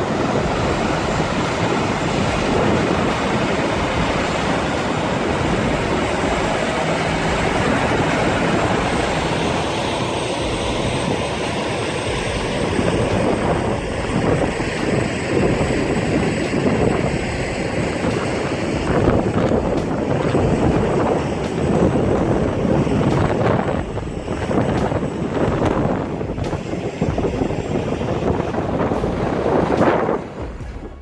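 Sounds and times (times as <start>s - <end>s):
heavy truck engine rumbling: 0.0s - 31.0s
road noise: 0.0s - 31.0s.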